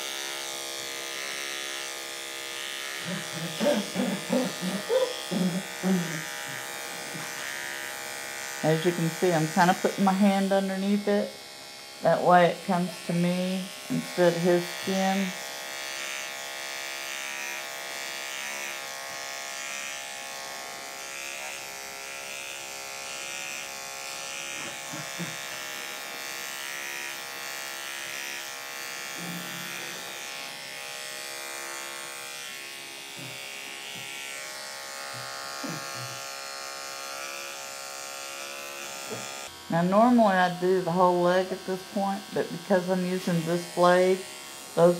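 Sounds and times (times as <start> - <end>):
electric clipper buzzing: 0.0 - 44.9.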